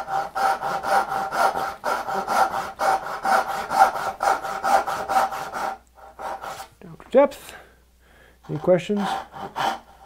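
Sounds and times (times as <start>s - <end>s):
hand saw cutting wood: 0.0s - 6.7s, 8.4s - 10.0s.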